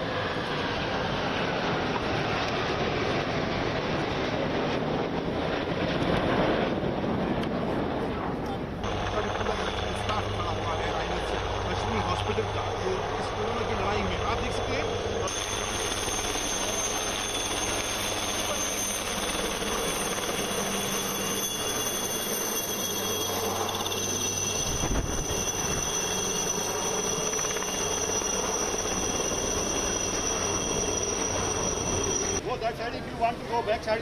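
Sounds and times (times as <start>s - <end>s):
helicopter flying overhead: 0.0s - 34.0s.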